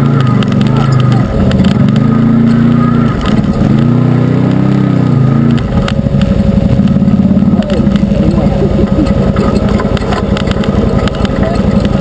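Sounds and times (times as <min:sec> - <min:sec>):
utv engine running: 0:00.0 - 0:12.0.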